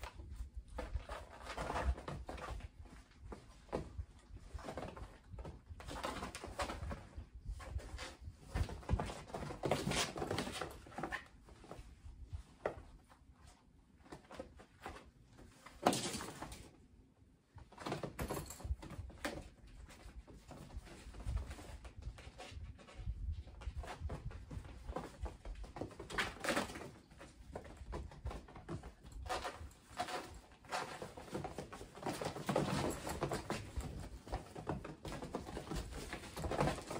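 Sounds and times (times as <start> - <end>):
kittens wrestling on fabric: 0.0 - 16.8, 17.4 - 36.9.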